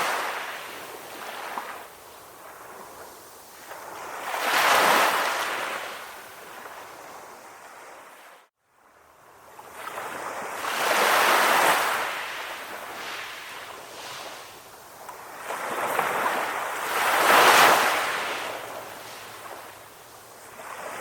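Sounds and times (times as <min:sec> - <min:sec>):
sea waves breaking: 0:00.0 - 0:08.4, 0:09.7 - 0:21.0.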